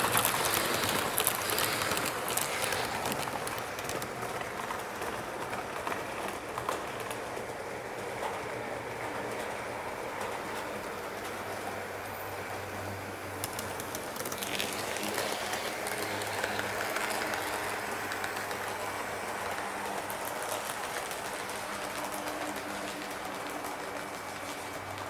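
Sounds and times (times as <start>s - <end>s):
model train motor hum: 0.0s - 7.2s, 8.9s - 25.0s
wheels clicking over rail joints: 0.0s - 25.0s.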